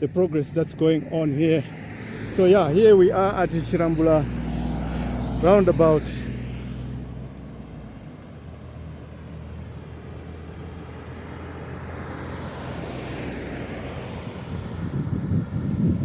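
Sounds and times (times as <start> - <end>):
vehicles passing: 0.0 - 16.0.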